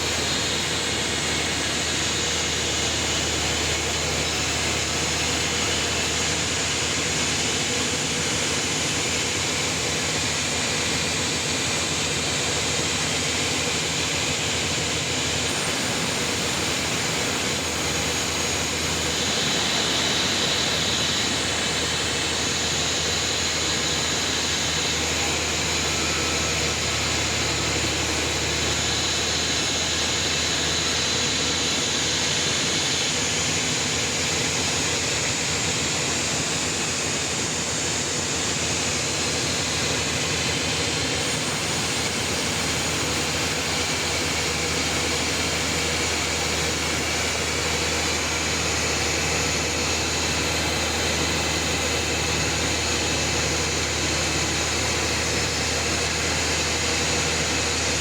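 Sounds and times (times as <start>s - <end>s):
sawmill machine drone: 0.0s - 58.0s.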